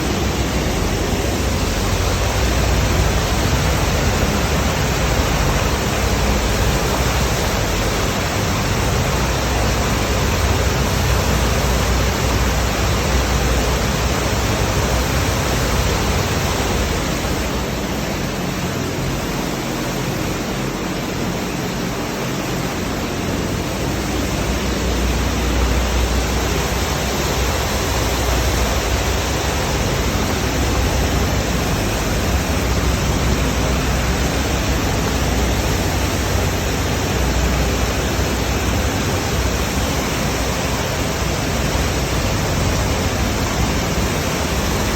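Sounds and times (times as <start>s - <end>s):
water rushing into manhole: 0.0s - 44.9s.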